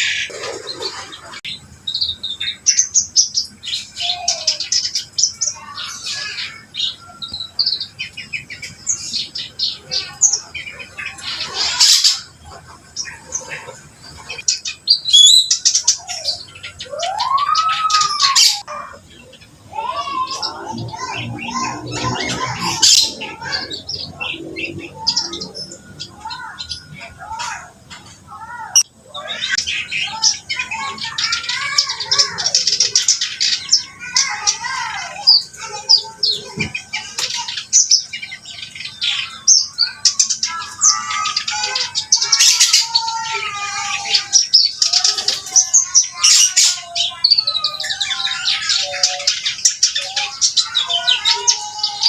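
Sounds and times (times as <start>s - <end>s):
warbler singing: 0.0s - 52.0s.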